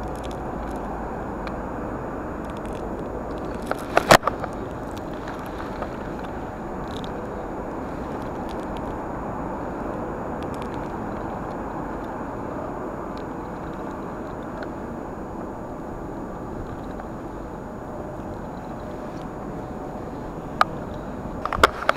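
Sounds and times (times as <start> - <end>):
road traffic rumble: 0.0 - 21.9.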